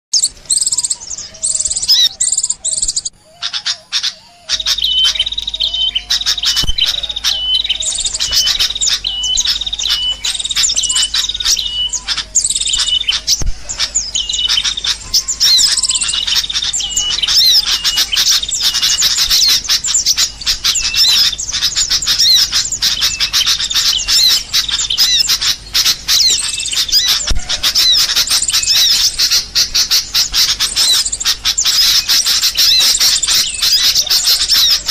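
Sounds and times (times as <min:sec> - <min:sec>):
birds chirping chorus: 0:00.1 - 0:34.9.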